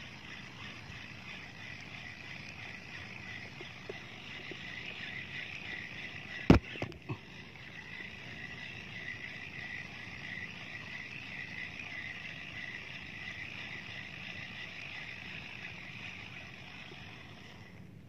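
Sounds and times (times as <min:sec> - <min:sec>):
spinning reel whirring: 0:00.0 - 0:18.0.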